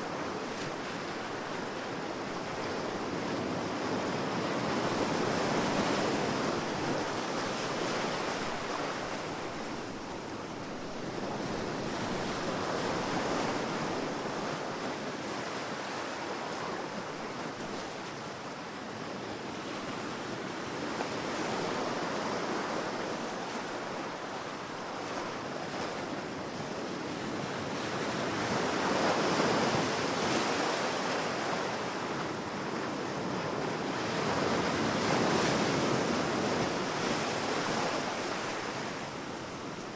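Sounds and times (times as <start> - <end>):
ocean waves breaking on a beach: 0.0 - 39.9.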